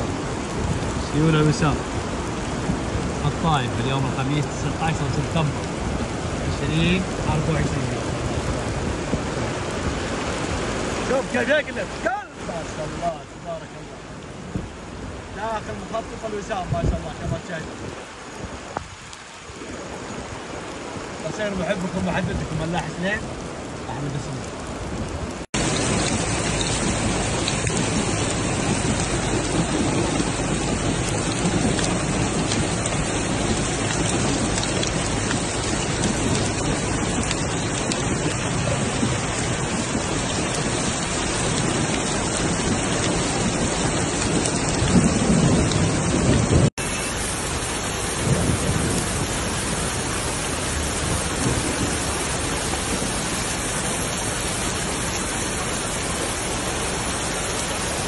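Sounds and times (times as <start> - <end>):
floodwater rushing: 0.0 - 58.0
heavy rain: 0.0 - 58.0.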